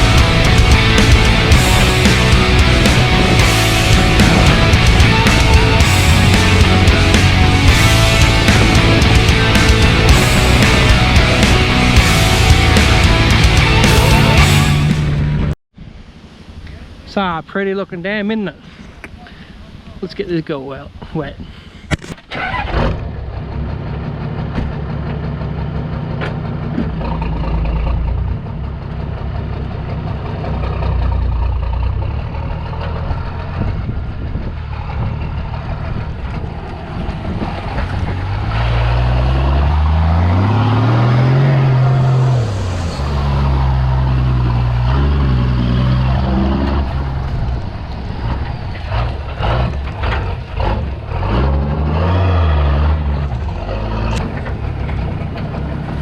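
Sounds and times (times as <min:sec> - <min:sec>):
vehicle engine working under load: 0:00.0 - 0:15.6, 0:22.1 - 0:56.0.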